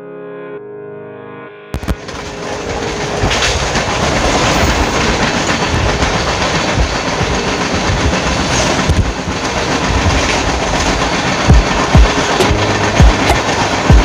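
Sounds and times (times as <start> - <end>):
trains rushing past: 1.8 - 14.0
wagons thudding and clattering: 1.9 - 14.0.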